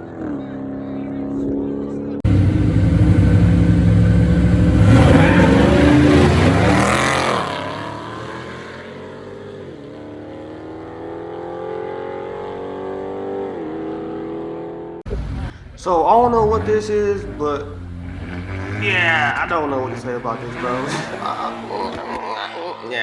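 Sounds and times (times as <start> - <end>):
racing cars passing at full throttle: 0.0 - 15.0, 16.5 - 23.0.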